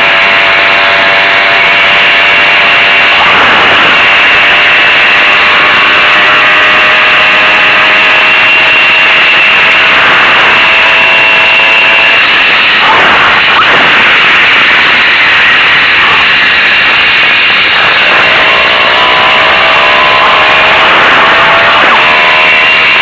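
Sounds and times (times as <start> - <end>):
loud rushing noise: 0.0 - 23.0
two-stroke moped engine running: 0.0 - 23.0.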